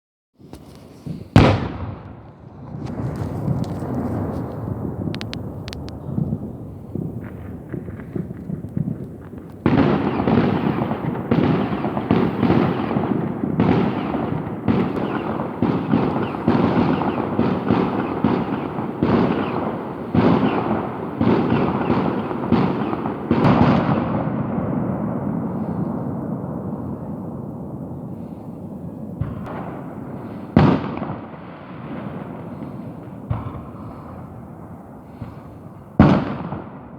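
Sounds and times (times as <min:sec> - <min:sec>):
fireworks banging: 0:00.4 - 0:36.9.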